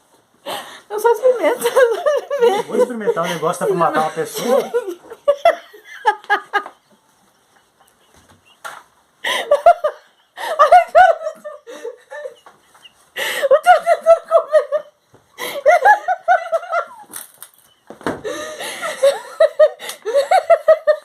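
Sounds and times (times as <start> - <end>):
people cackling laughter: 1.4 - 17.2, 18.3 - 21.0.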